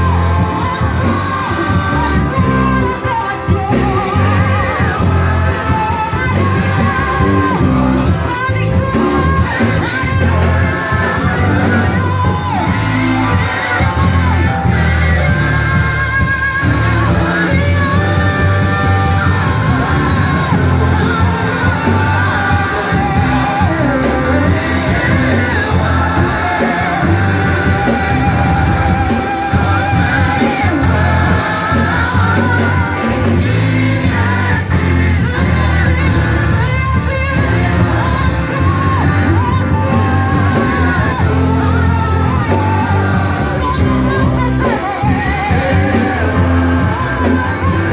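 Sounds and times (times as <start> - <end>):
voices singing: 0.0 - 47.9
worship band playing: 0.0 - 47.9.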